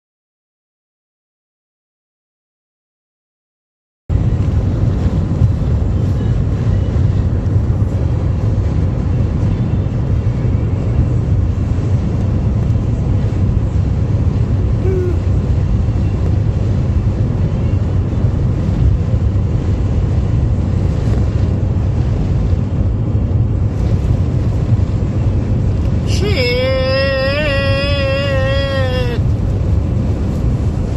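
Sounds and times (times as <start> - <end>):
high wavering whine: 4.1 - 30.9
strong wind blowing: 4.1 - 30.9.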